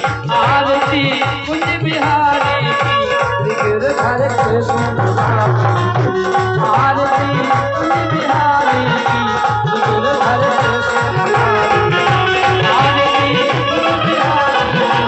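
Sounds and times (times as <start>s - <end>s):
fast drum beat: 0.0s - 15.0s
gliding melodic lead: 0.0s - 15.0s.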